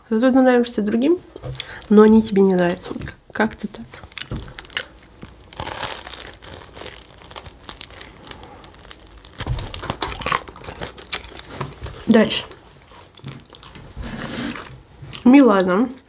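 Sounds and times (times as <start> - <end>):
food packaging crinkling: 1.4 - 16.0.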